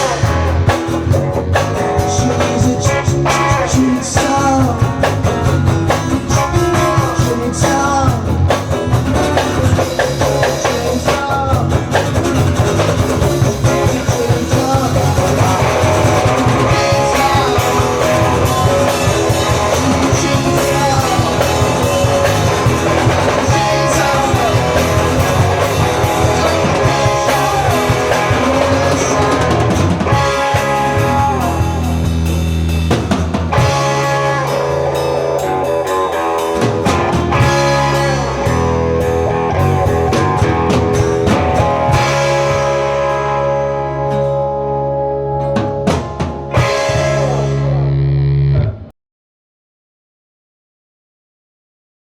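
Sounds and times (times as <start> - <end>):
drum kit: 0.0 - 47.9
electric guitar bending notes: 0.0 - 48.9
bass: 0.0 - 49.0.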